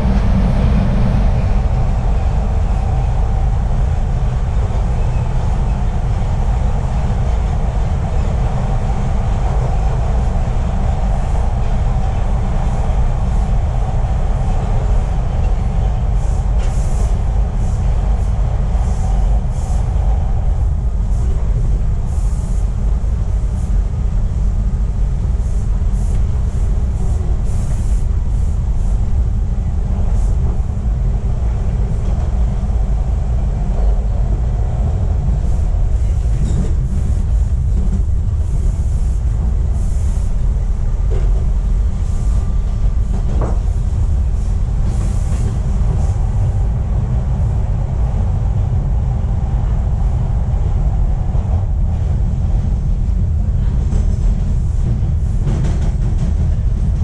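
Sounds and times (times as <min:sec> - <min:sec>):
subway train wheels rumbling: 0:00.0 - 0:57.0.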